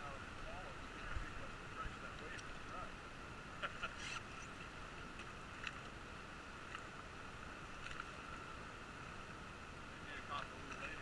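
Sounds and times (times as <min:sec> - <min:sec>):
river water lapping: 0:00.0 - 0:11.0.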